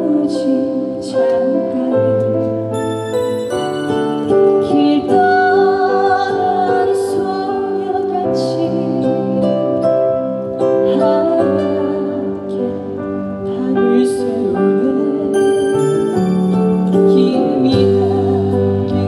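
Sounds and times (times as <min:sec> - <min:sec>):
slow ballad over pa: 0:00.0 - 0:19.0.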